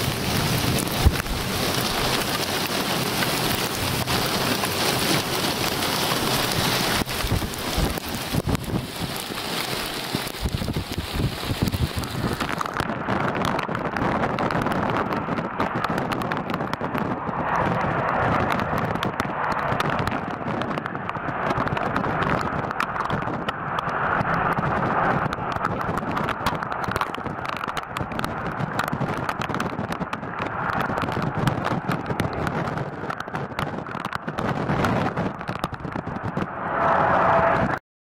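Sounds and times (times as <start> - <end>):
raindrops clicking: 0.0 - 36.5
heavy rain: 0.0 - 37.8
wind rumbling on microphone: 0.0 - 37.8.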